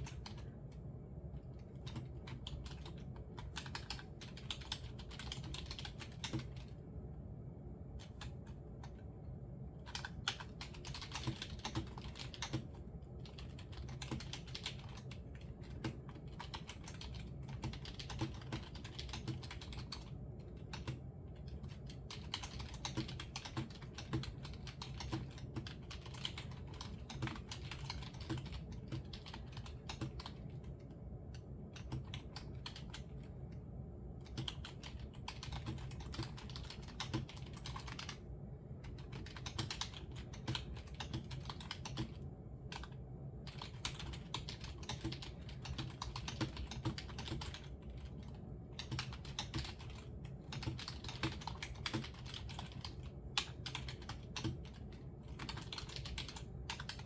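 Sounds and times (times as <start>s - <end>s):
computer keyboard typing: 0.0s - 6.8s, 7.9s - 9.1s, 9.7s - 57.0s.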